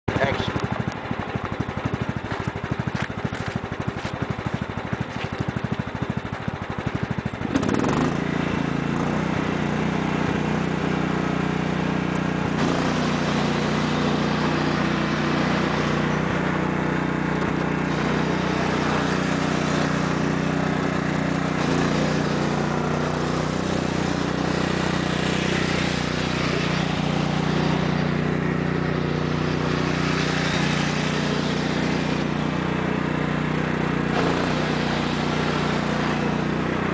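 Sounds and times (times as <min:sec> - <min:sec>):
lawn tractor engine: 0:00.0 - 0:36.9.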